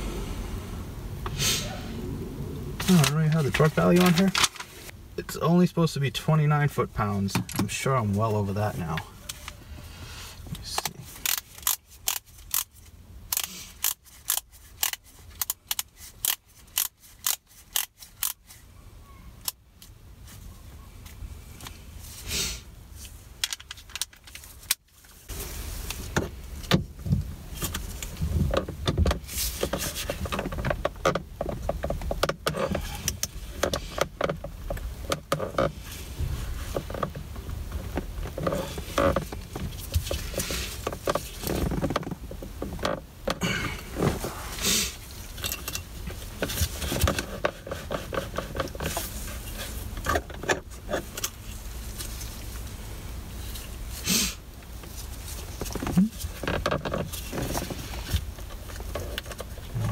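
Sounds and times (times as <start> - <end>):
low steady rumble: 0.0 - 59.9.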